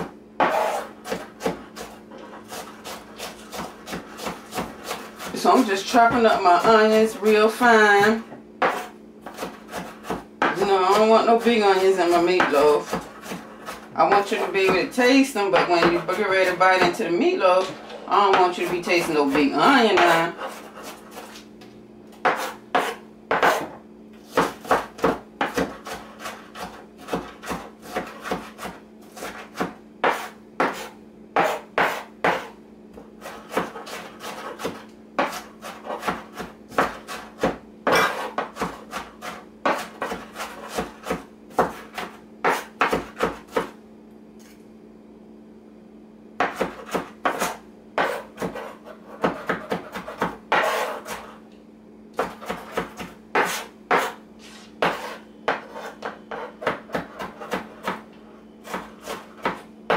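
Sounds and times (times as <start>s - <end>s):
knife chopping on cutting board: 0.0s - 21.4s, 22.2s - 43.8s, 46.4s - 51.4s, 52.2s - 59.9s.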